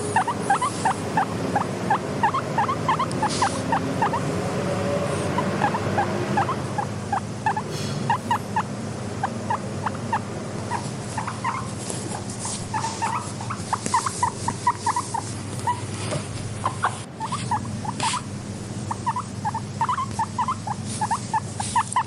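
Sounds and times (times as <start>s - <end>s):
guinea pigs squeaking: 0.0s - 22.0s.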